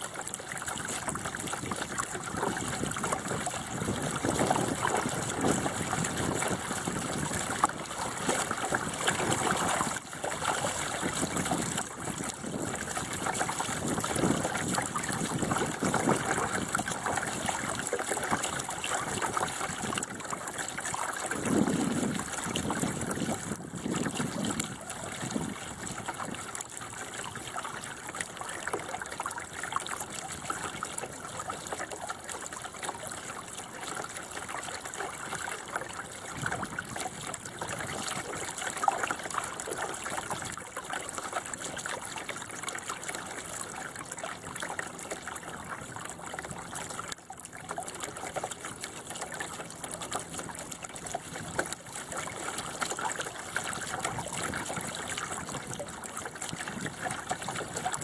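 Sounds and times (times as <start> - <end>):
water trickling along boat hull: 0.0 - 58.0.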